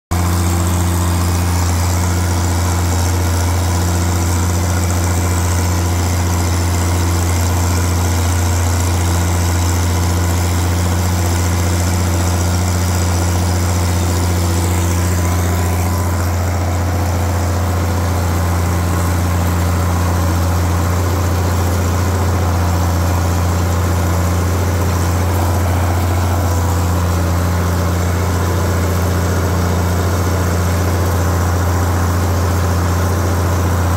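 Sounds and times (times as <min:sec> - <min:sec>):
tractor engine running under load: 0:00.1 - 0:33.9.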